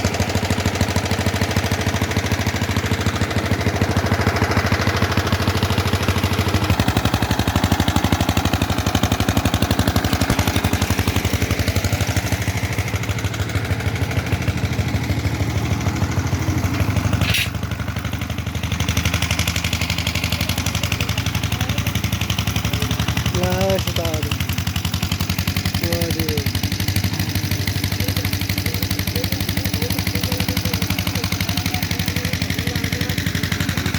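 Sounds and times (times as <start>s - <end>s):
diesel generator running: 0.0s - 33.9s.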